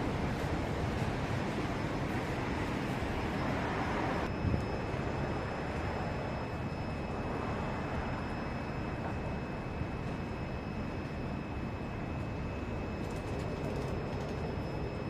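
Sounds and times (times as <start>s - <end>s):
faint steady high tone: 2.2s - 15.0s.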